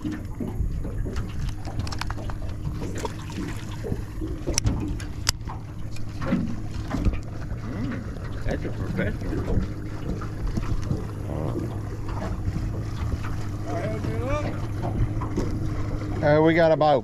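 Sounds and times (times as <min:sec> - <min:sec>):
steady low hum: 0:00.0 - 0:17.0
water lapping against boat: 0:00.0 - 0:17.0.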